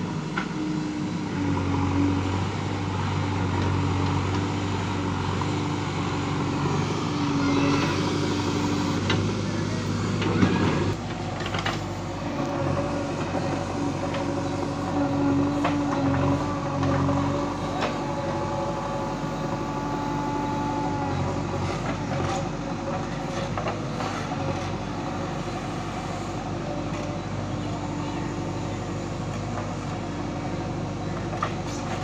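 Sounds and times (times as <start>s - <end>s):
diesel engine running under load: 0.0s - 32.0s.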